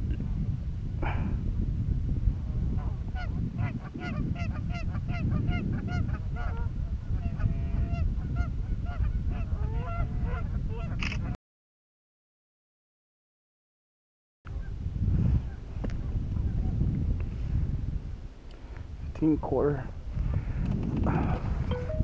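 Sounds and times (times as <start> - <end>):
wind rumble on microphone: 0.0 - 11.4, 14.5 - 22.0.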